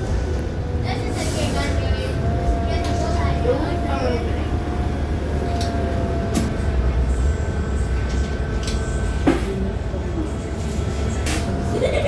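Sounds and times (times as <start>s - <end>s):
bus cabin rumble: 0.0s - 12.0s.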